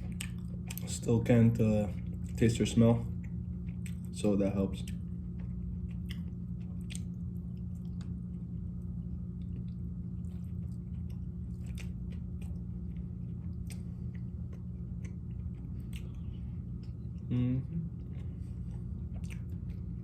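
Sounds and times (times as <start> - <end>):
low hum: 0.0 - 20.0
person chewing food: 0.0 - 20.0.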